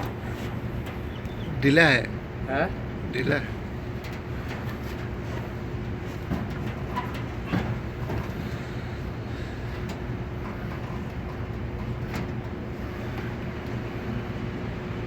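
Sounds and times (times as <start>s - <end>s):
exhaust fan motor humming: 0.0s - 15.0s.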